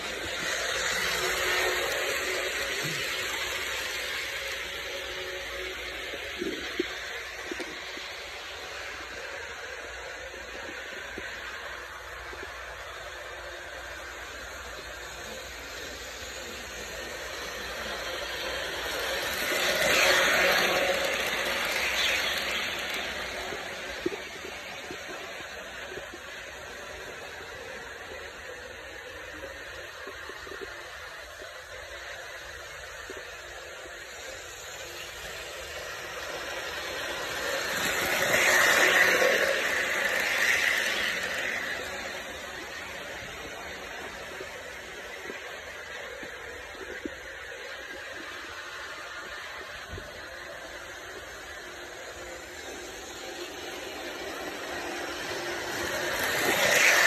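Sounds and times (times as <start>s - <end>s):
model train running on track: 0.0s - 57.0s.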